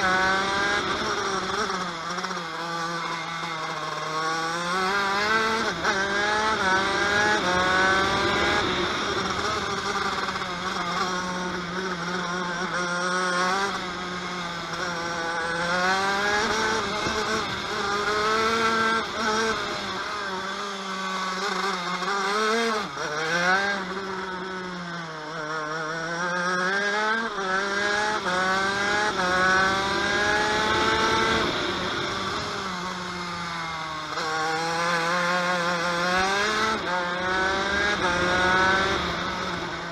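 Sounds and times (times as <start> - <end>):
kart engine shifting gears: 0.0 - 39.9.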